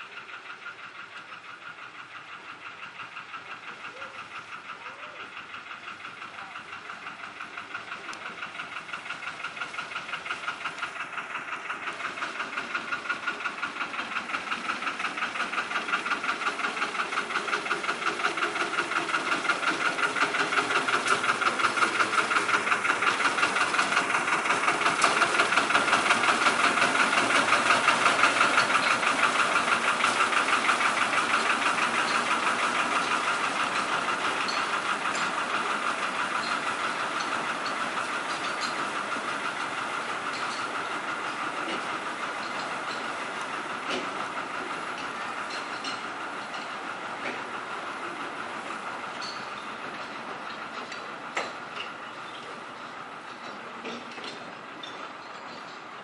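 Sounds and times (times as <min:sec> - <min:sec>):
diesel locomotive engine chugging: 0:00.0 - 0:56.0.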